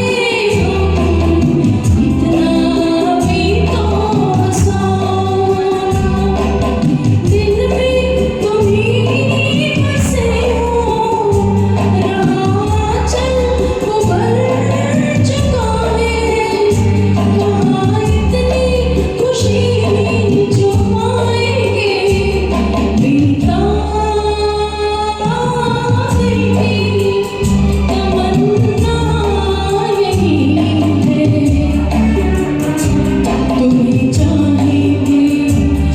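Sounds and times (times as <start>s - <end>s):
karaoke backing track: 0.0s - 35.9s
woman singing: 0.0s - 35.9s.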